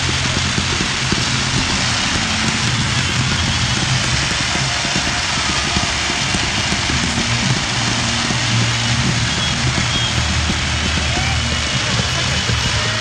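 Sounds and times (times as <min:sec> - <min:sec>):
firework fountains hissing and crackling: 0:00.0 - 0:13.0.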